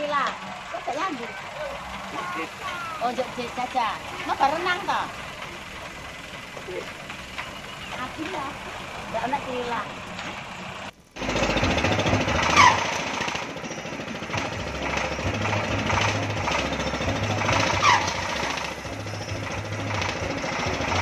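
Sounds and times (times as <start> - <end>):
diesel engine knocking: 0.0 - 9.8, 10.4 - 21.0.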